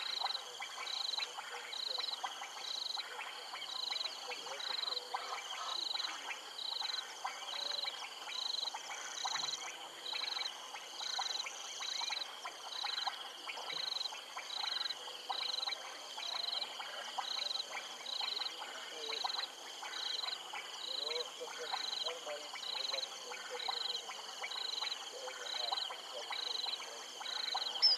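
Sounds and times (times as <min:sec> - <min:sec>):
frog clicks and croaks: 0:00.0 - 0:27.9.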